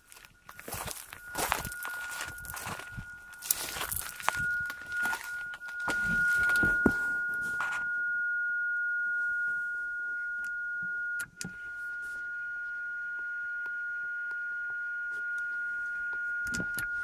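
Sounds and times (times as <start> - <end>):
steady radio beat-note tone: 0.0 - 17.0.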